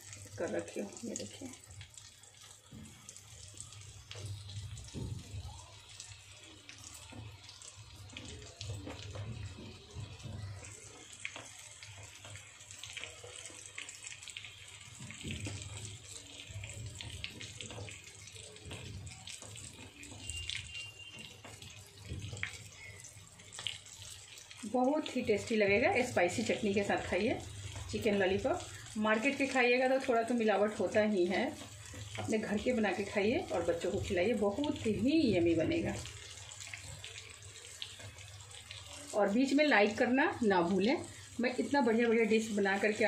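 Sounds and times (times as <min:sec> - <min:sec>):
oil sizzling with crackles: 0:00.0 - 0:43.0.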